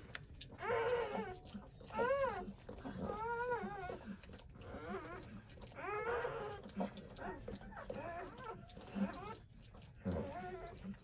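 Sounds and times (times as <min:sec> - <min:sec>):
puppies squealing: 0:00.5 - 0:11.0.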